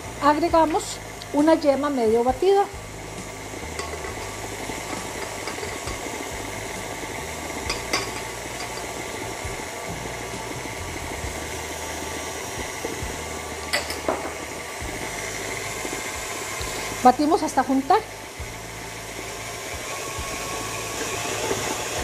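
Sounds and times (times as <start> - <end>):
stand mixer running: 0.0 - 22.0.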